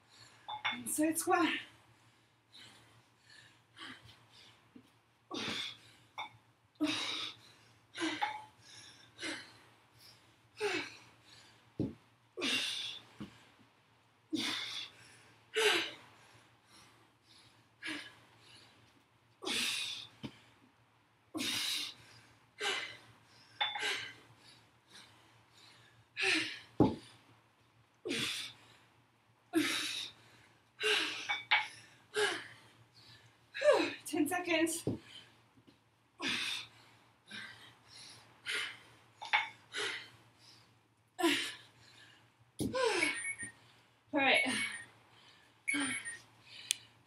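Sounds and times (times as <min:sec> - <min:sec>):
woman breathing hard: 0:01.8 - 0:06.2, 0:06.8 - 0:13.6, 0:14.3 - 0:20.6, 0:21.4 - 0:27.3, 0:29.5 - 0:34.0, 0:36.2 - 0:47.0.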